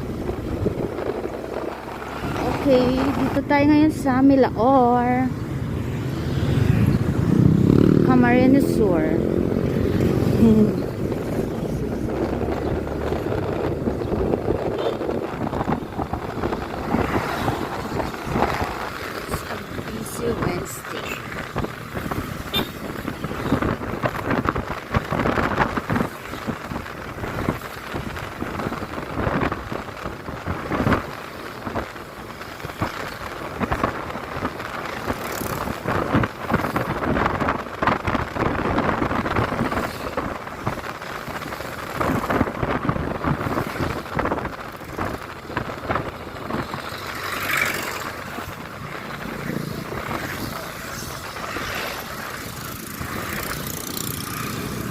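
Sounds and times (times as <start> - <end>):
motorcycle engine: 0.0 - 54.9
road noise: 0.0 - 54.9
wind buffeting microphone: 0.0 - 54.9.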